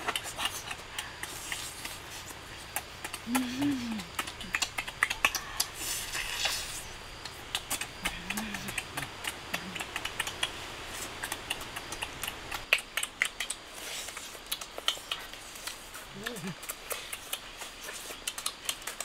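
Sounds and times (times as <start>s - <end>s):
lip smacks: 0.0s - 19.0s
meat being chewed: 0.0s - 19.0s.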